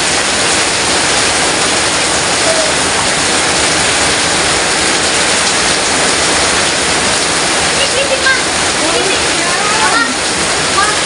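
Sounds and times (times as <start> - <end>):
heavy rain falling and splashing: 0.0 - 11.0.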